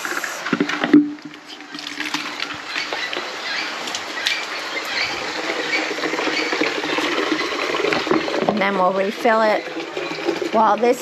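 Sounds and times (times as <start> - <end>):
water splashing onto ground: 0.0 - 11.0.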